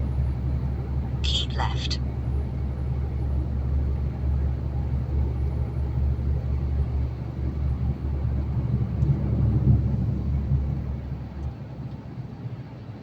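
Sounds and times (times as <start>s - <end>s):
deep low drone: 0.0s - 11.7s
truck engine and road noise: 0.0s - 13.0s.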